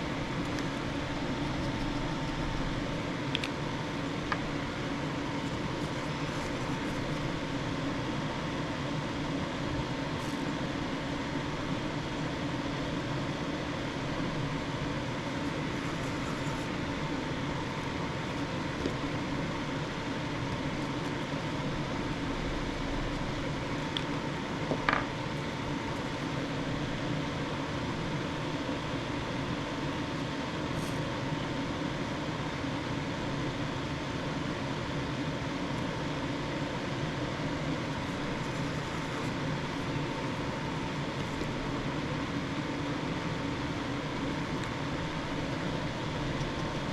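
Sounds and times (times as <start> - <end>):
mechanical hum with whine: 0.0 - 46.9.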